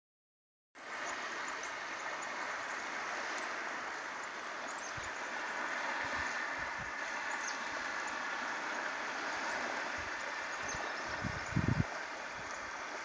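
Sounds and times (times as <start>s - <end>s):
wind: 0.8s - 13.0s.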